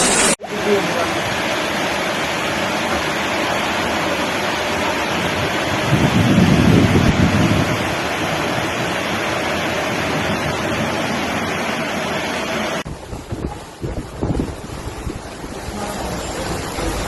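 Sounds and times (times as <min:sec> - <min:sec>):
loud rush of water: 0:00.0 - 0:17.0.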